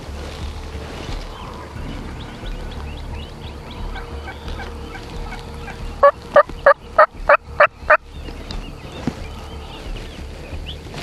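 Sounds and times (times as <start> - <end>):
faint songbirds chirping: 0.0 - 11.0
turkey yelping: 1.2 - 10.8.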